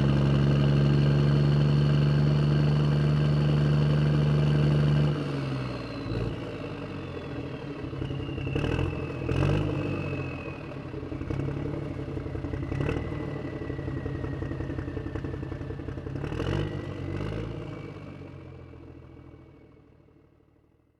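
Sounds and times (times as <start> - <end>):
vehicle engine driving off: 0.0 - 20.1.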